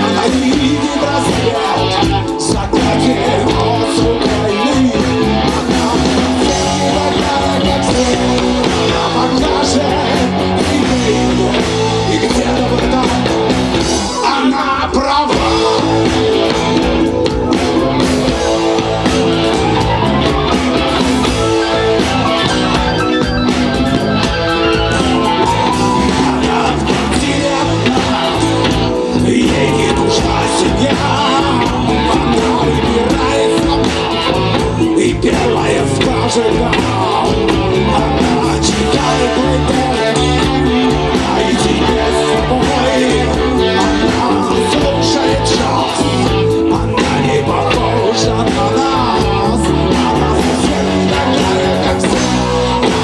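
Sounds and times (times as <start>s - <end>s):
bass guitar: 0.0s - 53.0s
electric guitar: 0.0s - 53.0s
man singing lead vocal: 0.0s - 53.0s.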